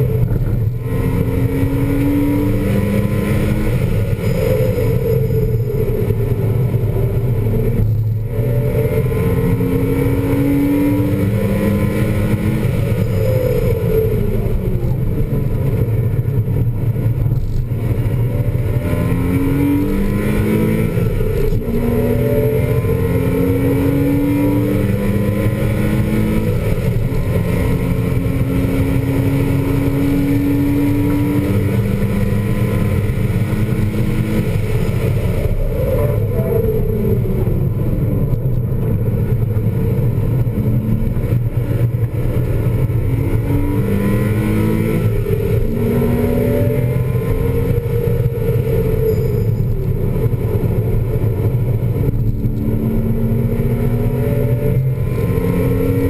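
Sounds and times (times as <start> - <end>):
car engine accelerating and shifting: 0.0 - 56.0.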